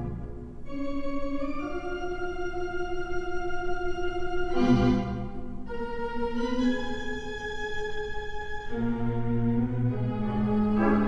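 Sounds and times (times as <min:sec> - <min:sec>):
organ music with held notes: 0:00.0 - 0:11.0.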